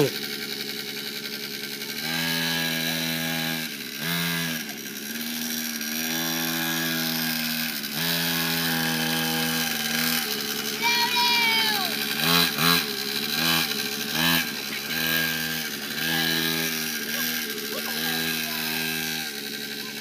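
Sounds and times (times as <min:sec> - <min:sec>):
small dirt bike engine buzzing: 0:00.0 - 0:20.0.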